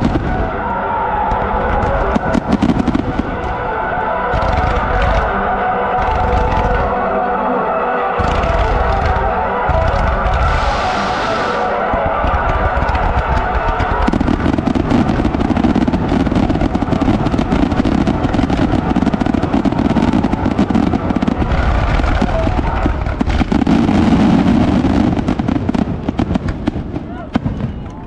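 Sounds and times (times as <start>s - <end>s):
fireworks crackling and banging: 0.0s - 7.2s, 8.2s - 28.0s.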